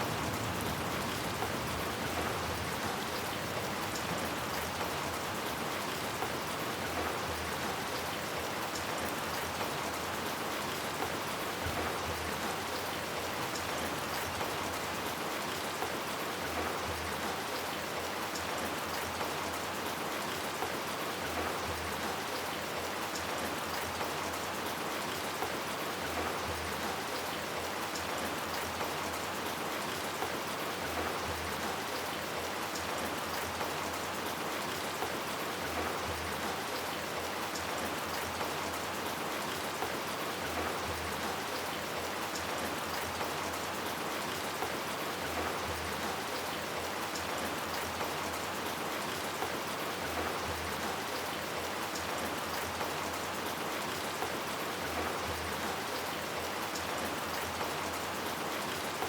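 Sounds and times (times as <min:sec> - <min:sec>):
raindrops ticking on surfaces: 0:00.0 - 0:59.0
steady rain: 0:00.0 - 0:59.0.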